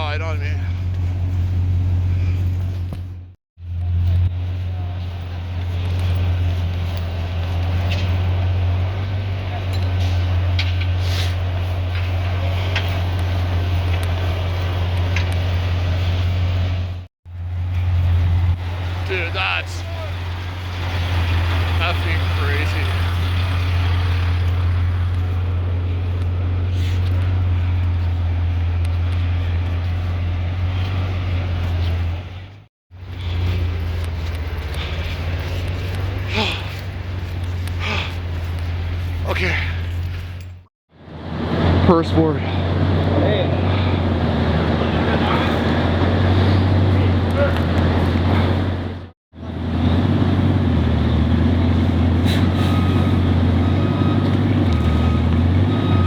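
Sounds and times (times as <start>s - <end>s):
car engine droning: 0.0s - 56.0s.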